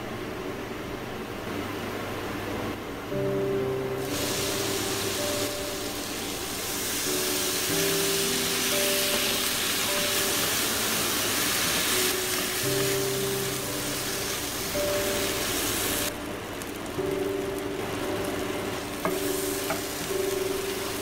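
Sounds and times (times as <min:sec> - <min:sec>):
slow background music: 0:00.0 - 0:21.0
food sizzling in a wok: 0:04.0 - 0:21.0.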